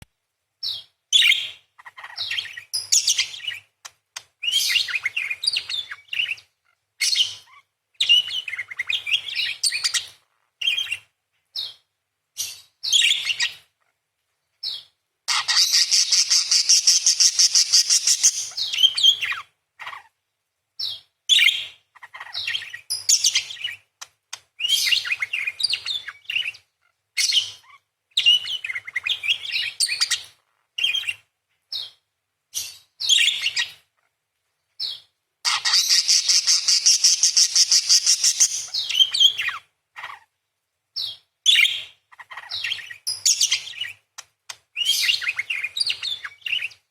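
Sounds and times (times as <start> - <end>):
parakeet chirping: 0.6 - 3.7, 4.4 - 6.4, 7.0 - 11.8, 12.4 - 13.6, 14.6 - 20.1, 20.8 - 23.9, 24.6 - 26.6, 27.2 - 32.0, 32.6 - 34.1, 34.8 - 40.2, 41.0 - 44.0, 44.8 - 46.8.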